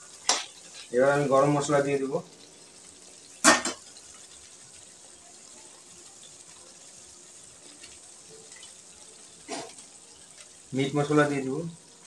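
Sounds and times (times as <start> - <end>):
curry sizzling softly: 0.0 - 12.0.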